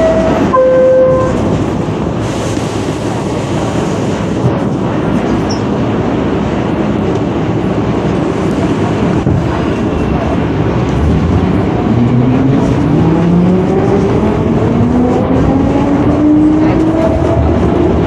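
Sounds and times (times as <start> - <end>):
wheels rumbling on rail: 0.0 - 18.0.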